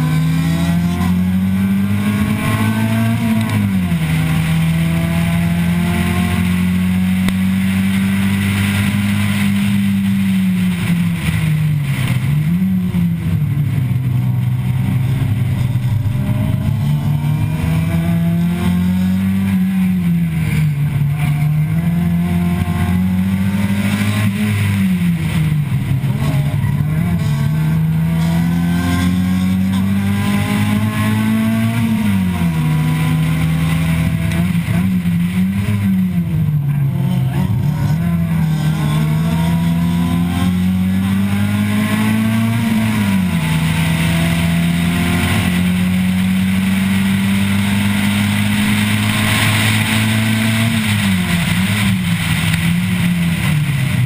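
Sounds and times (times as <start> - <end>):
car engine revving: 0.0 - 54.0
wind and road noise hiss: 0.0 - 54.0.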